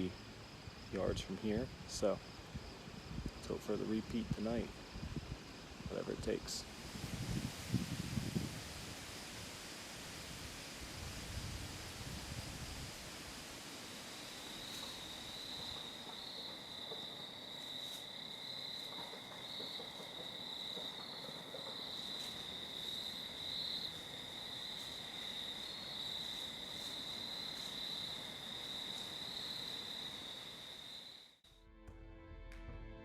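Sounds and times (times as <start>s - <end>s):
crickets chirping: 0.0s - 31.4s
faint outdoor hiss: 0.0s - 31.4s.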